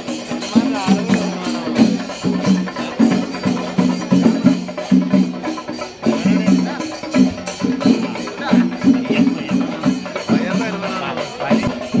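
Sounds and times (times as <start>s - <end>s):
drums beating: 0.0s - 12.0s.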